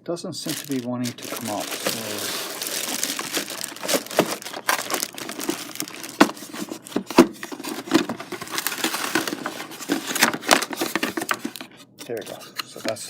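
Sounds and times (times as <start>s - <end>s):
packaging rustling and crinkling: 0.4s - 13.0s.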